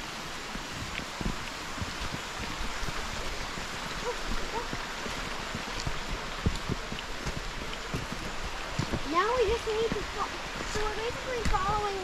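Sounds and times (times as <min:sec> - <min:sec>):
footsteps on wet rocky trail: 0:00.0 - 0:12.0
forest background hiss: 0:00.0 - 0:12.0.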